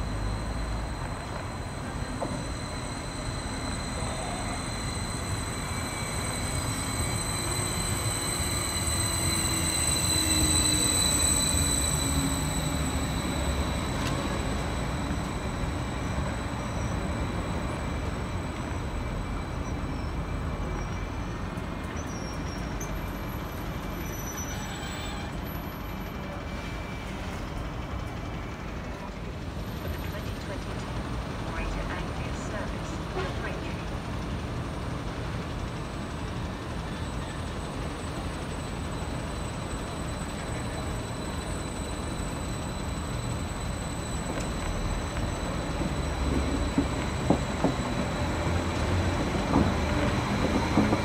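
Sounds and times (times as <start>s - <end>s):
train braking whine: 0.0s - 51.0s
train rumble: 0.0s - 51.0s.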